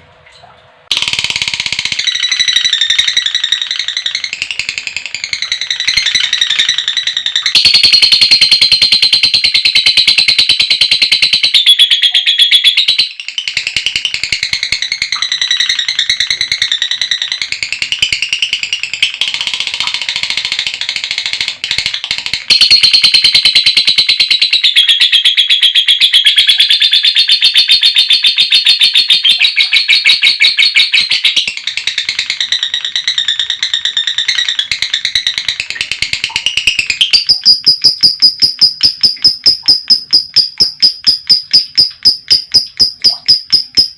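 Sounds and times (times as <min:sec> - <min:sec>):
lovebird chattering trill: 0:00.9 - 0:19.5, 0:22.5 - 0:43.9
shrill repeated bird notes: 0:00.9 - 0:43.9.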